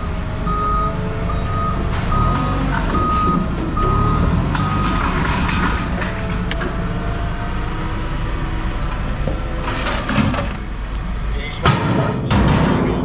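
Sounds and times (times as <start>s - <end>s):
truck reversing alarm beeping: 0.0s - 11.5s
truck engine running: 0.0s - 11.7s.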